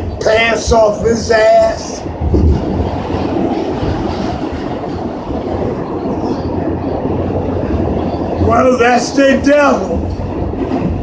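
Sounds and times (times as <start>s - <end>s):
subway wheels rumbling on rails: 0.0s - 11.0s.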